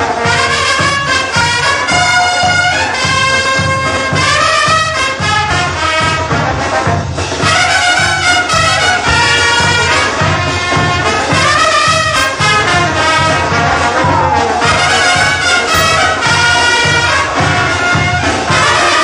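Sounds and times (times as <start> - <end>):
bass drum beat: 0.0 - 19.0
trumpets holding long notes: 0.0 - 19.0.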